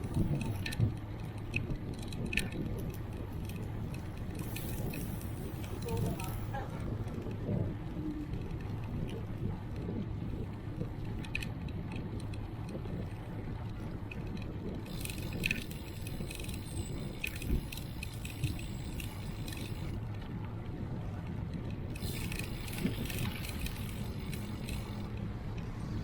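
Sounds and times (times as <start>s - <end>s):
bicycle clicks and rattles: 0.0s - 26.0s
wind and road rumble: 0.0s - 26.0s.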